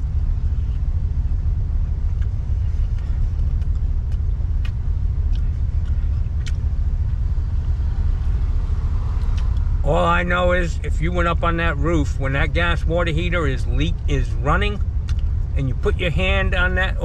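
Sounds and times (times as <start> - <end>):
vehicle rumble from inside cab: 0.0 - 17.0.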